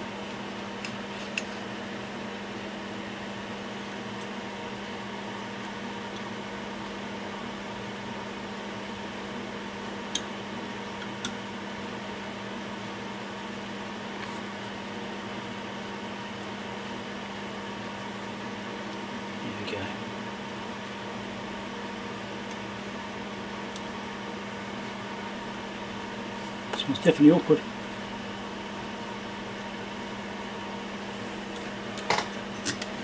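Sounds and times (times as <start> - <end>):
machine hum with hiss: 0.0 - 33.0.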